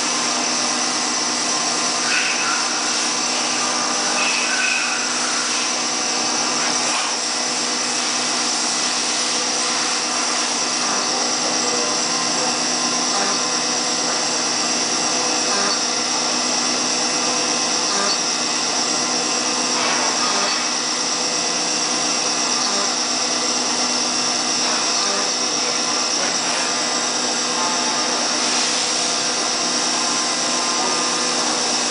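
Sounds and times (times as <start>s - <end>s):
milling machine spindle whine: 0.0s - 31.9s.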